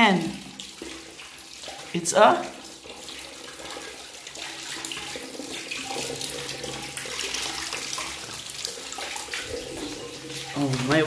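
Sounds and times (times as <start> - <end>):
child rinsing hands: 0.0 - 11.0
tap water running into sink: 0.0 - 11.0.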